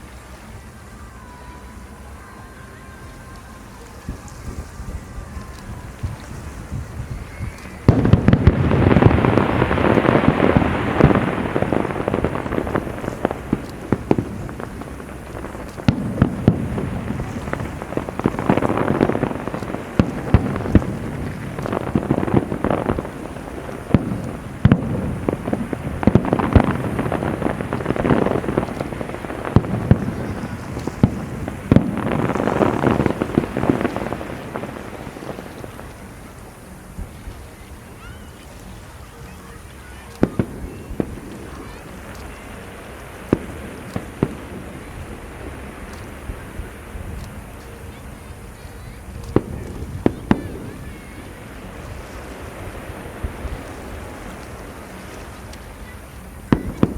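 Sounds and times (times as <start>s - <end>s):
fireworks crackling: 0.0s - 56.9s
fireworks bangs: 3.7s - 56.9s.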